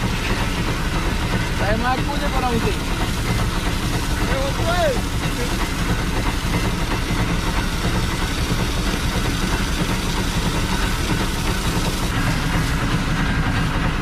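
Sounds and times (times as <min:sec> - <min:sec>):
fire hose spraying water: 0:00.0 - 0:14.0
pump engine running: 0:00.0 - 0:14.0.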